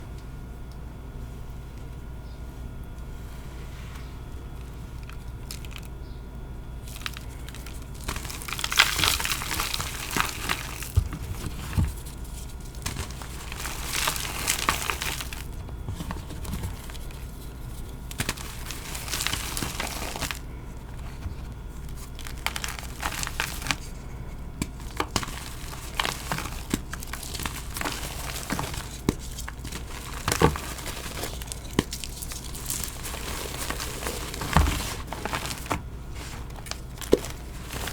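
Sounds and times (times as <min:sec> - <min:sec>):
powder blocks crumbling by hand: 0:04.4 - 0:06.1, 0:06.8 - 0:37.9.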